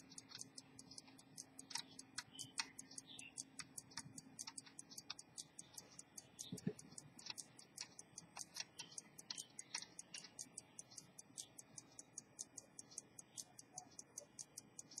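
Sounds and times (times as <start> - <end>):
pocket watch ticking faintly: 0.0 - 15.0.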